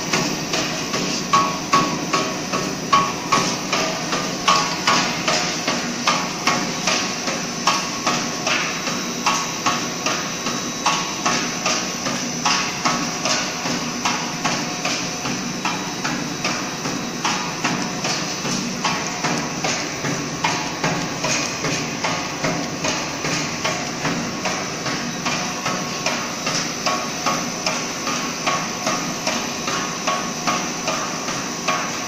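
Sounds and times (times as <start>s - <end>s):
machine hum: 0.0s - 32.0s
rhythmic machine knocking: 0.0s - 32.0s.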